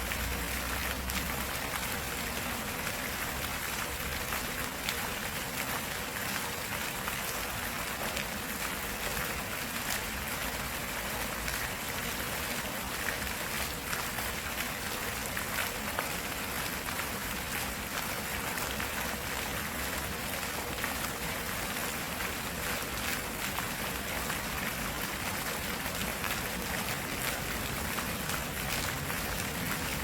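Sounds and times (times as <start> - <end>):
stream running: 0.0 - 30.0.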